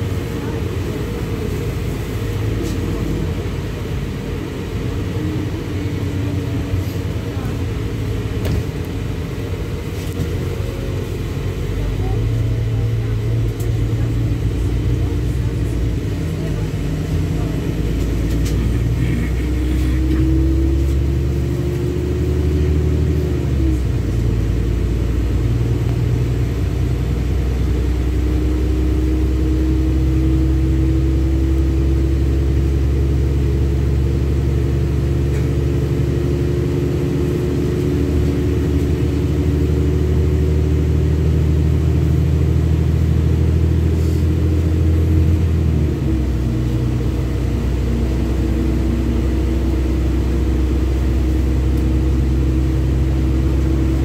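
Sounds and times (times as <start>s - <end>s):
bus engine rumble and whine: 0.0s - 54.0s.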